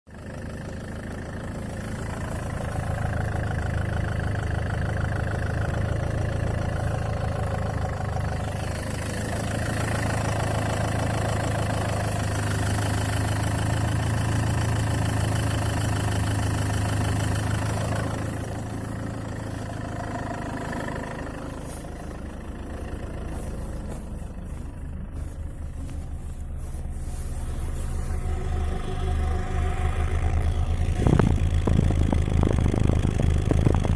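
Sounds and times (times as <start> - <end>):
car engine knocking: 0.1 - 28.8, 30.2 - 33.9.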